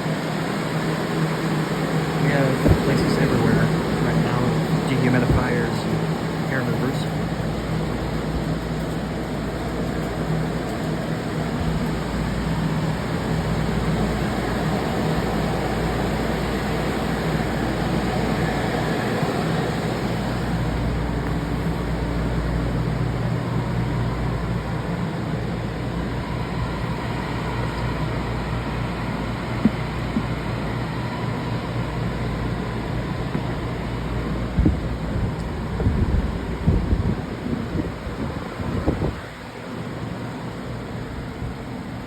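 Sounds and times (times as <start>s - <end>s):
fans whirring: 0.0s - 42.0s
low motor hum: 0.0s - 42.0s.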